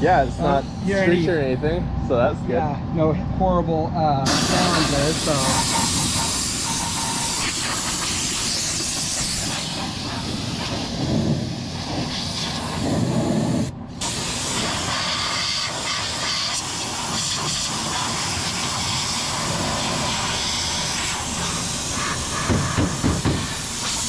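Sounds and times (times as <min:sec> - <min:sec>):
furnace blower fan rushing air: 0:00.0 - 0:24.0.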